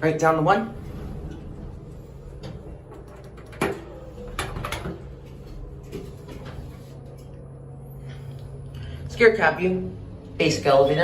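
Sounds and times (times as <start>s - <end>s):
elevator doors closing: 0.0s - 9.4s
low elevator hum: 0.0s - 11.0s.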